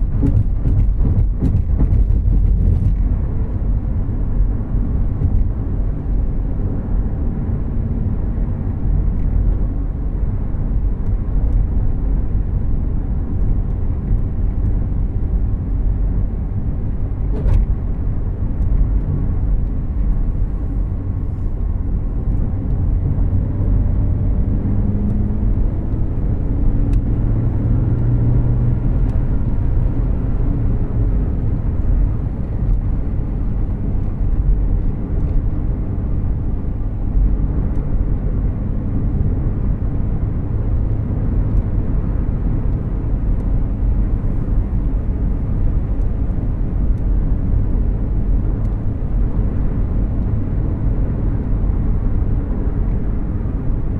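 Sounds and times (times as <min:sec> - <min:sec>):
car engine hum: 0:00.0 - 0:53.9
road and tyre rumble: 0:00.0 - 0:53.9.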